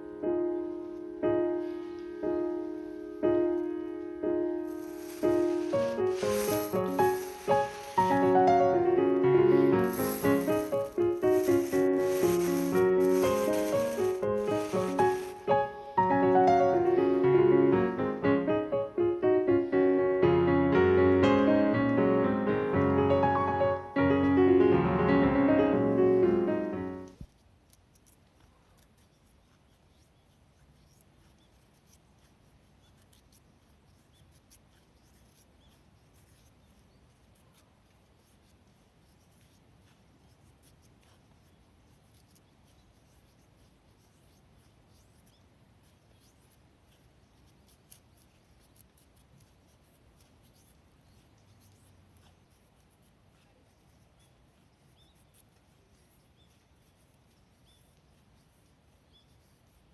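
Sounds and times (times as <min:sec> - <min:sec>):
faint scratching: 0:00.7 - 0:18.1, 0:25.9 - 0:59.9.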